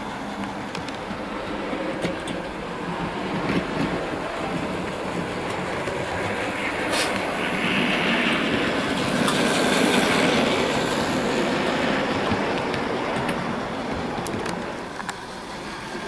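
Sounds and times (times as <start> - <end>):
wheels running on rails: 0.0 - 16.0.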